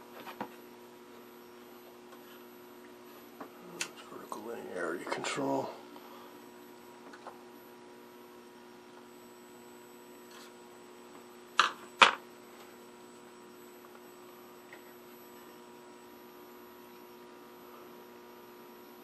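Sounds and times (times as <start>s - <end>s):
television electrical hum: 0.0s - 19.0s.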